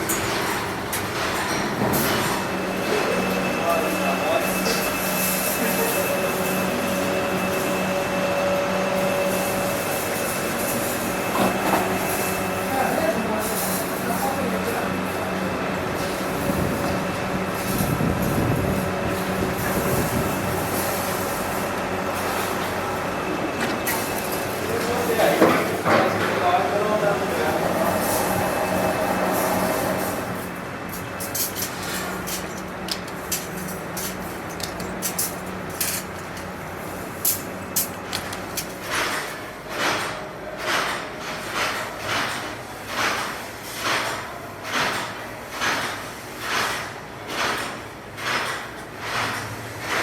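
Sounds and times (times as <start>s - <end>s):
workshop machinery noise: 0.0s - 50.0s.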